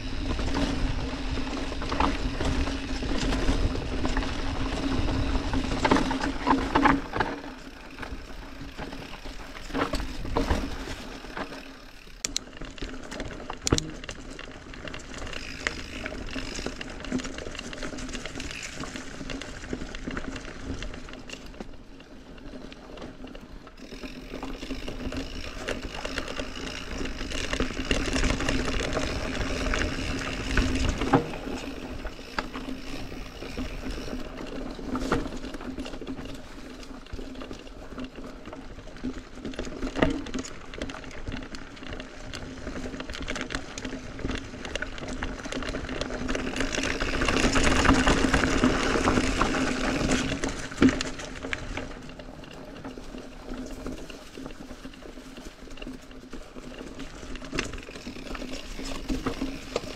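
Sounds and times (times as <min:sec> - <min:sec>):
bike rattling: 0:00.0 - 0:59.9
bike tyres rolling over dirt: 0:00.0 - 0:59.9.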